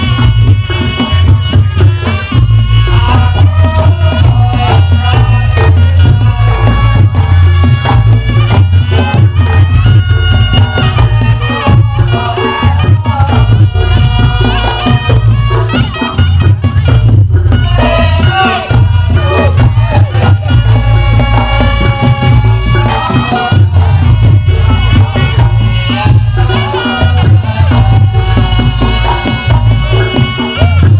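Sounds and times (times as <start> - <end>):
drums and gongs: 0.0 - 30.9
reedy wind instrument melody: 0.0 - 30.9.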